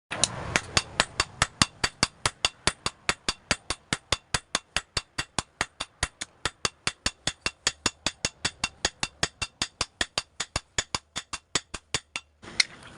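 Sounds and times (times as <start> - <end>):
hammer striking metal on anvil: 0.1 - 12.4.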